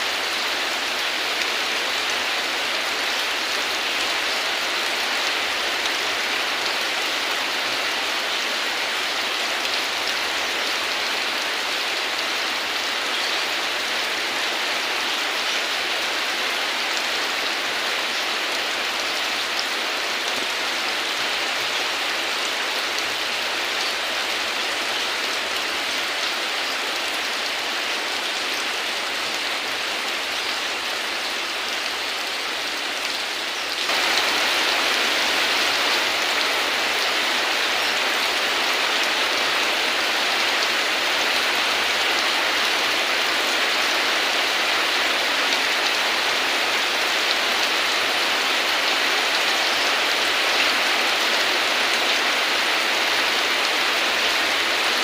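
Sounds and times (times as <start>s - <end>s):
heavy rain hiss: 0.0s - 55.0s.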